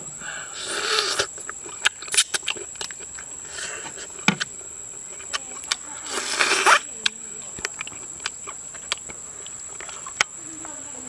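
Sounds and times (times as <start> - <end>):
wet chewing and lip-smacking: 0.6 - 10.8
sharp clicks and crunches: 0.9 - 10.8.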